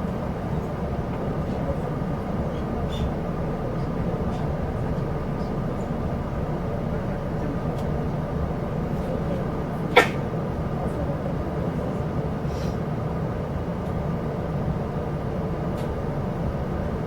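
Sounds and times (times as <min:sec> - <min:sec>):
train carriage rumbling: 0:00.0 - 0:17.0.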